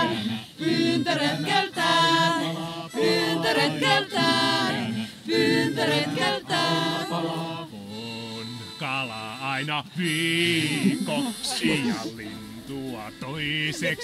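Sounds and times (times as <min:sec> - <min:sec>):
group singing a cappella: 0:00.0 - 0:14.0.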